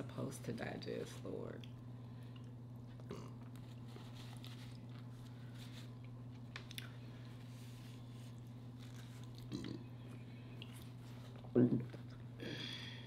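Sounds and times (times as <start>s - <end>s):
steady low hum: 0.0s - 13.0s
faint chewing and mouth sounds: 1.6s - 12.4s.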